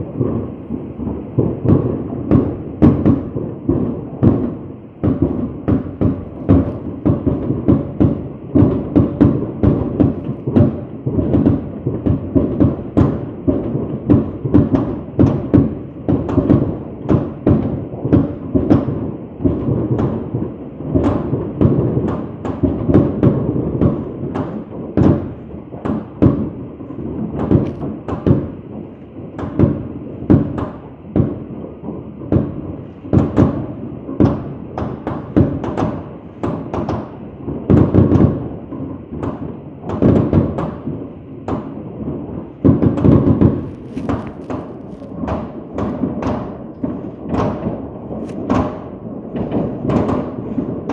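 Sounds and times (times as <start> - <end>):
fireworks booming and cracking: 0.0 - 50.9.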